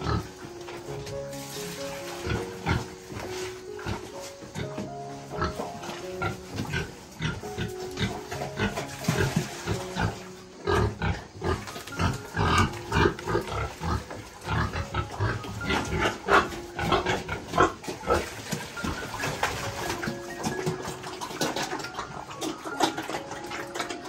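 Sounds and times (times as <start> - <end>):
pigs grunting: 0.0 - 24.0.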